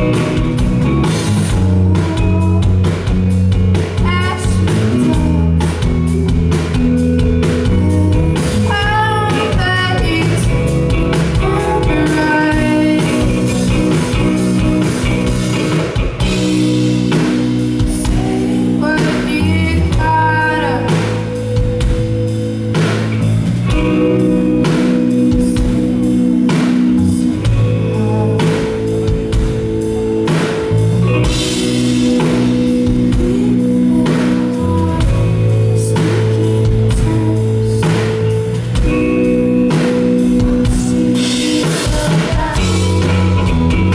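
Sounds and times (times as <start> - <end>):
woman singing: 0.0 - 15.2, 16.2 - 21.4, 23.8 - 30.6, 31.3 - 43.9
rock band playing live: 0.0 - 43.9.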